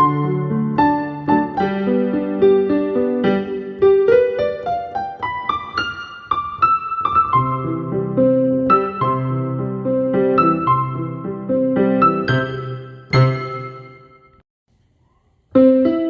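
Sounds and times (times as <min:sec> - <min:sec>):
low bass piano chords: 0:00.0 - 0:14.4
piano melody: 0:00.0 - 0:14.4, 0:15.5 - 0:16.0.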